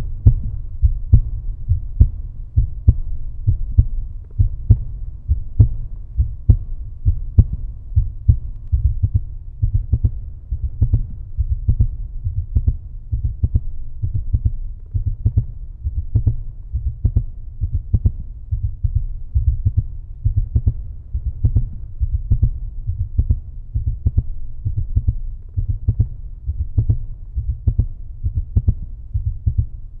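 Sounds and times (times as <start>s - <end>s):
heartbeat thumps: 0.0s - 30.0s
low hum: 0.0s - 30.0s.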